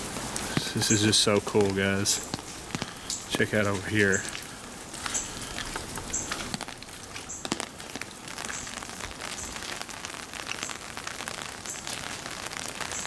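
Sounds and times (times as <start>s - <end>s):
rain falling: 0.0s - 13.0s
sharp drips and ticks: 0.0s - 13.0s.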